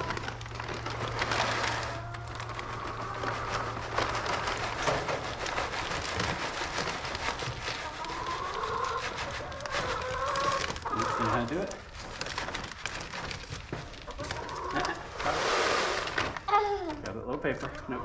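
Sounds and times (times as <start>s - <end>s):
feed grains pattering into feeder: 0.0s - 16.5s.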